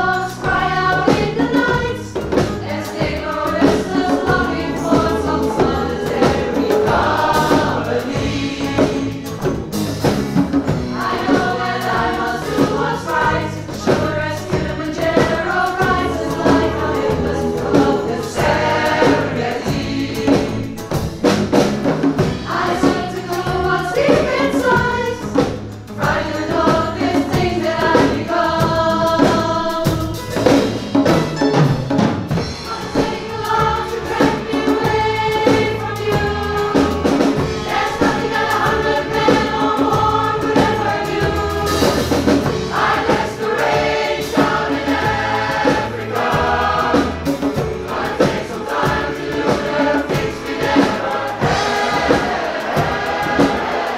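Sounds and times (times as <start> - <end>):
mixed choir singing: 0.0 - 30.8, 32.3 - 53.9
hand drum beat: 0.5 - 53.9.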